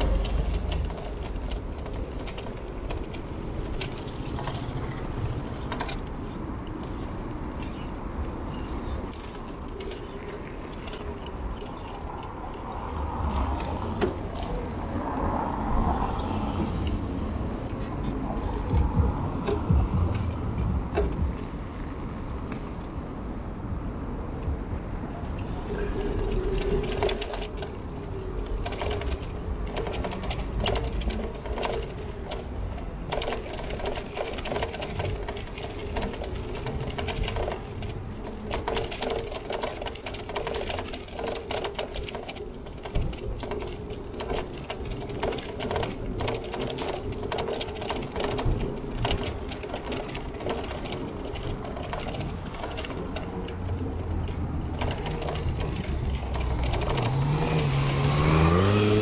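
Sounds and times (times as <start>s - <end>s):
bicycle clicking and rattling: 0.0s - 23.0s, 24.4s - 59.0s.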